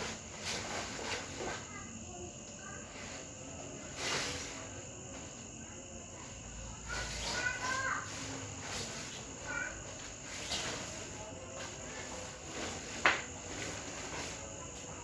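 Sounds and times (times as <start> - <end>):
crickets chirring: 0.0 - 15.0
faint voices: 0.0 - 15.0.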